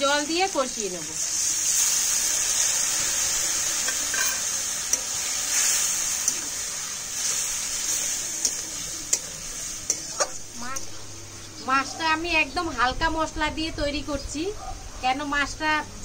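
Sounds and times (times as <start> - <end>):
food sizzling in hot oil: 0.0 - 14.5.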